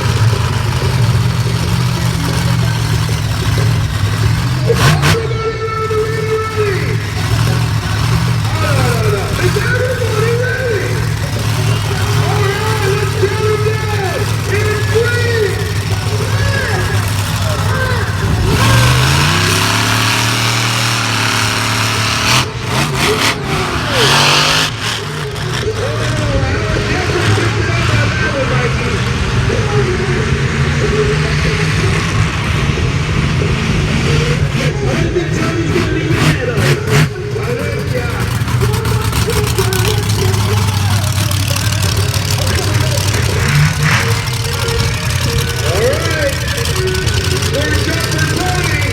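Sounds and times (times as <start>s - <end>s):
vehicle engine rumbling: 0.0s - 48.9s.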